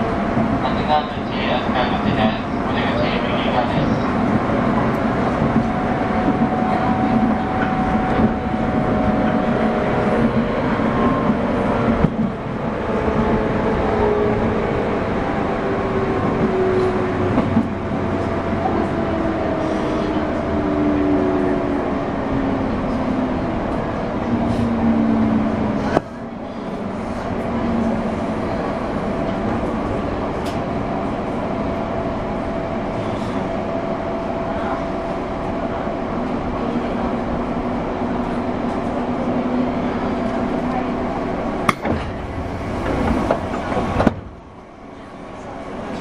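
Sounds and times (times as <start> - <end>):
train wheels on rails: 0.0 - 46.0.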